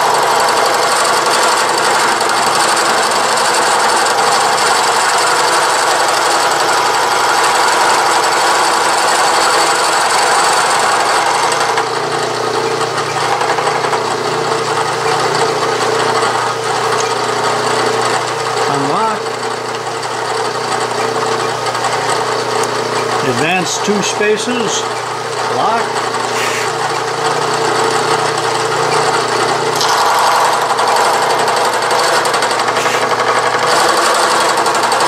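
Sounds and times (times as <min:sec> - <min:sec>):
milling machine cutting metal: 0:00.0 - 0:35.0
milling machine running: 0:00.0 - 0:35.0.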